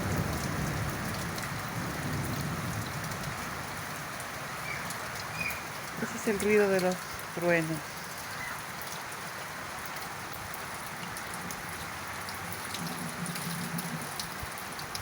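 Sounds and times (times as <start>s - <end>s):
raindrops ticking: 0.0s - 15.0s
steady rain falling: 0.0s - 15.0s.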